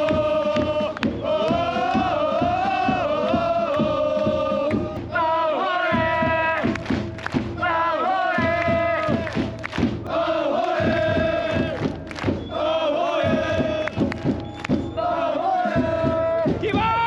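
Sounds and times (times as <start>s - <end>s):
drum beating: 0.0s - 17.0s
football supporters chanting: 0.0s - 17.0s.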